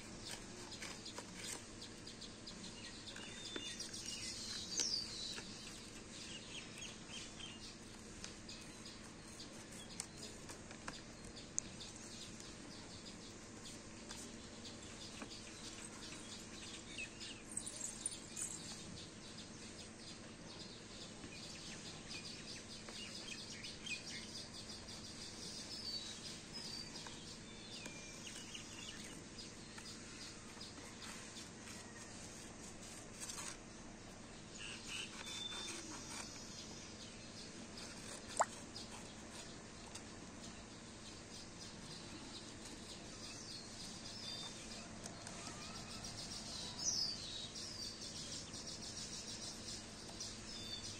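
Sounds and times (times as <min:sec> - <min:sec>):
faint steady hum: 0:00.0 - 0:50.9
small birds chirping: 0:00.0 - 0:50.9.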